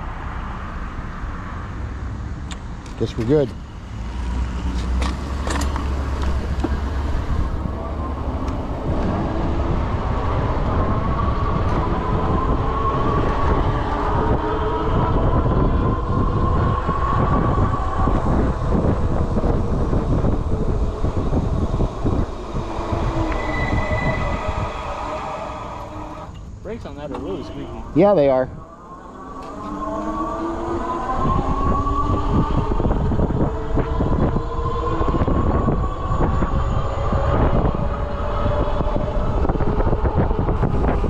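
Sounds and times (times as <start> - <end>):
wind rumble on microphone: 0.0 - 41.0
electric bike motor whine: 3.7 - 41.0.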